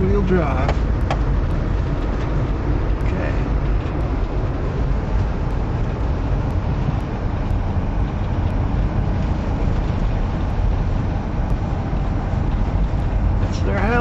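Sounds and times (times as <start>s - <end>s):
vehicle engine and tyres rumbling: 0.0s - 14.0s.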